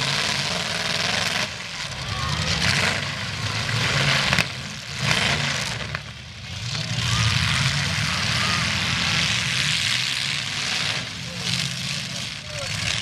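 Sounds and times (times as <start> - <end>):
distant car engines revving: 0.0 - 13.0.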